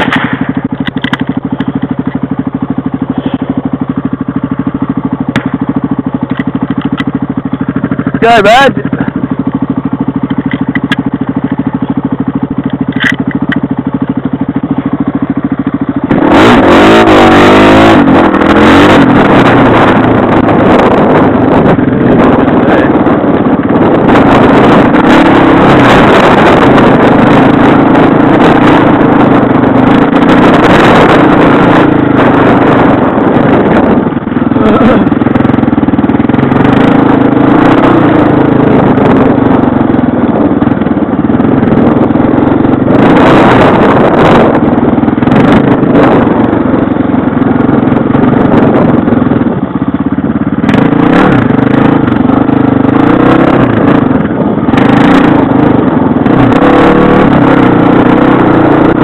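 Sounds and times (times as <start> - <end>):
clatter over rough ground: 0.0 - 59.0
motorbike engine: 0.0 - 59.0
wind noise: 0.0 - 59.0.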